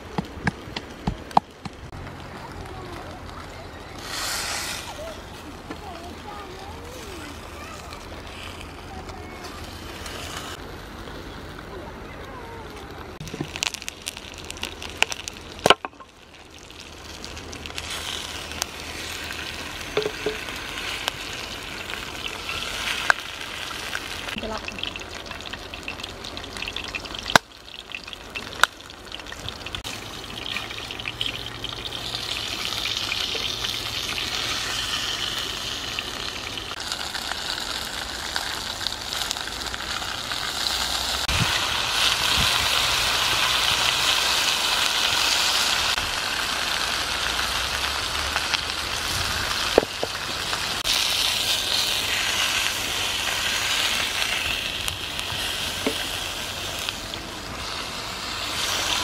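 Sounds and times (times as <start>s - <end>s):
crackling sizzle of frying: 0.0s - 59.0s.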